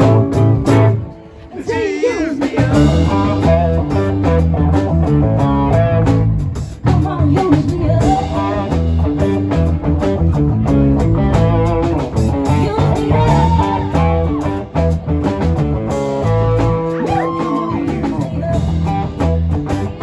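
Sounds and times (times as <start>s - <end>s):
acoustic guitar: 0.0s - 20.0s
drum kit beat: 0.0s - 20.0s
electric guitar bending notes: 0.0s - 20.0s.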